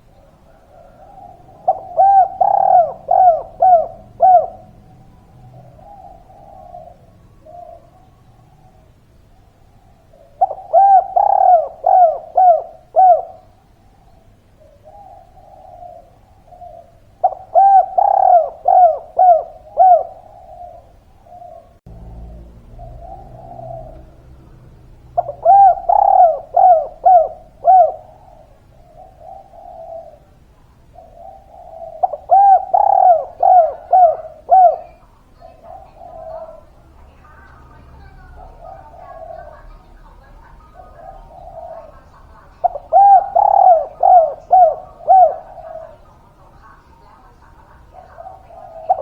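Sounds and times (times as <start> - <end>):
dove cooing: 0.0 - 49.0.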